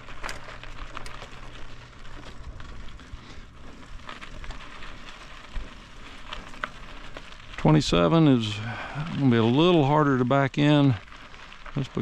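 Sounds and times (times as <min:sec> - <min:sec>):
bicycle tyres rolling over gravel: 0:00.0 - 0:12.0.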